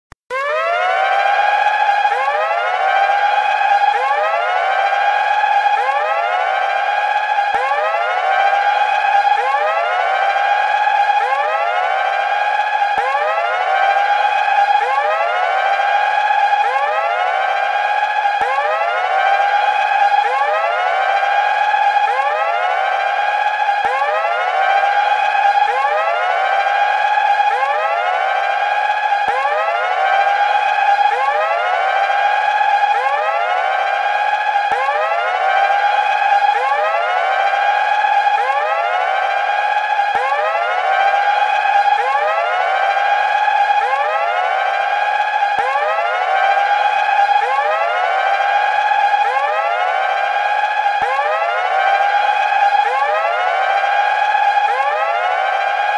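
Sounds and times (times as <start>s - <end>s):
electronic alarm siren whooping: 0.3s - 55.9s.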